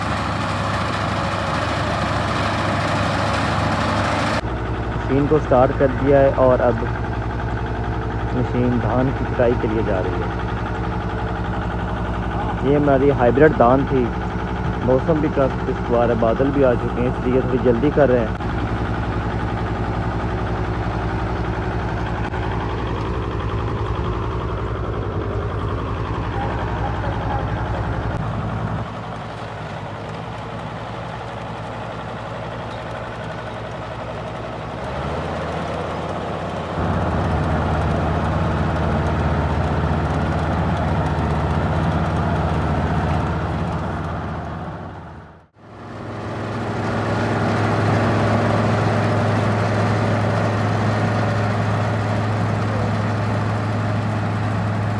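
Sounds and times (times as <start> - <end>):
combine harvester engine humming: 0.0 - 54.9.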